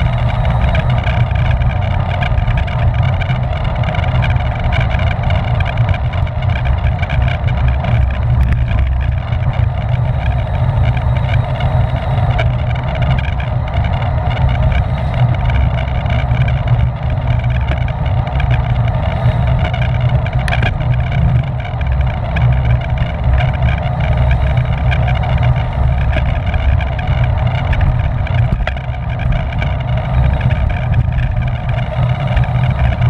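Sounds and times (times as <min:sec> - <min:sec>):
bike tyres and drivetrain humming: 0:00.0 - 0:33.0
wind rumble on microphone: 0:00.0 - 0:33.0.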